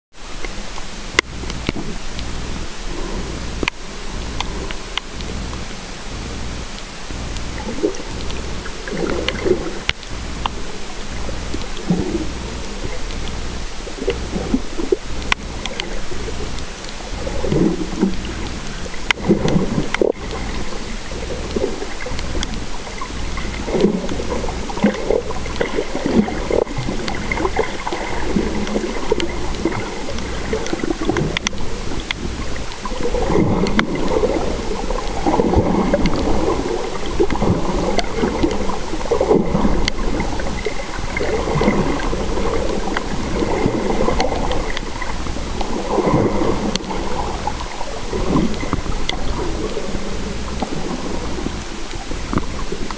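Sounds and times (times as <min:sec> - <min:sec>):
underwater gurgling: 0:00.1 - 0:52.9.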